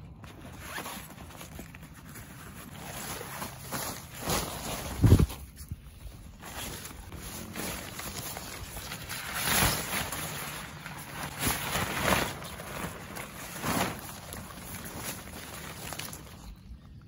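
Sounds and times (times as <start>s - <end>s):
tarp rustling and swishing: 0.2s - 16.7s.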